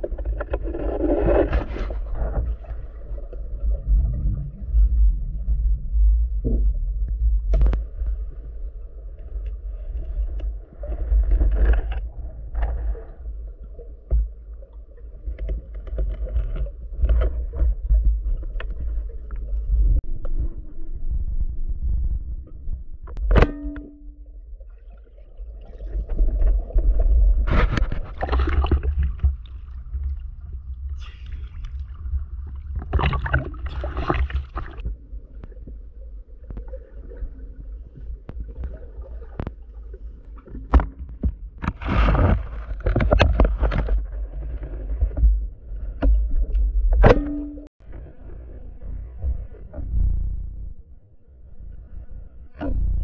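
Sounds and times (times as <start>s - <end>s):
low underwater rumble: 0.0s - 53.0s.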